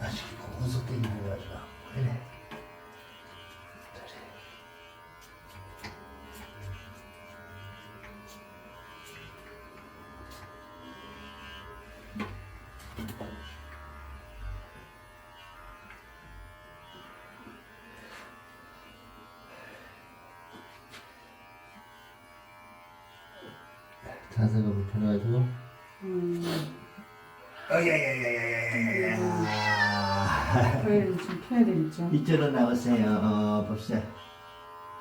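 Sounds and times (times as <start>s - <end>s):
electric hair clippers buzzing: 0.1s - 35.0s.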